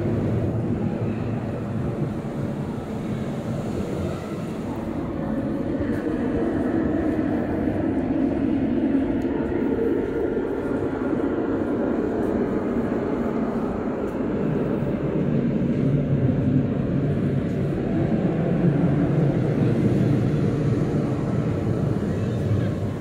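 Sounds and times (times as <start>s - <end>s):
low rumbling noise: 0.0s - 23.0s.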